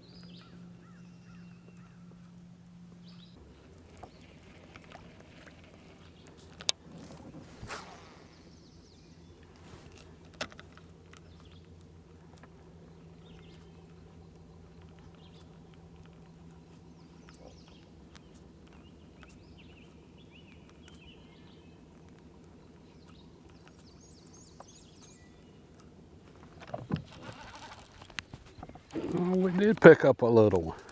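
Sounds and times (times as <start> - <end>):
low hum: 0.0 - 29.9
birds chirping: 0.0 - 30.9.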